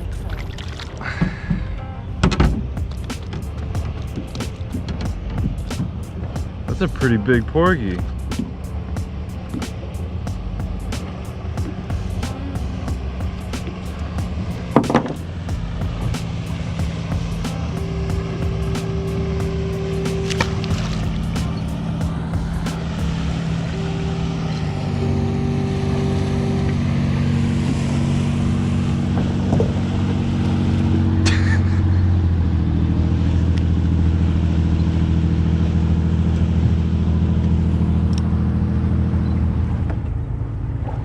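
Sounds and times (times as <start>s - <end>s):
motorboat engine running: 0.0s - 41.0s.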